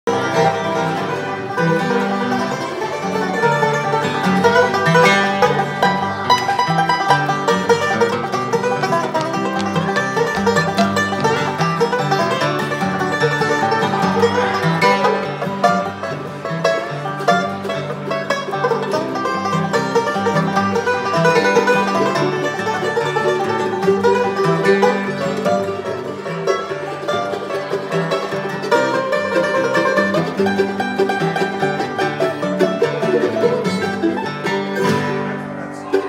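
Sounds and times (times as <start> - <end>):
banjo picking fast rolls: 0.0 - 36.0
mandolin playing: 0.0 - 36.0
acoustic guitar flatpicking: 0.1 - 36.0.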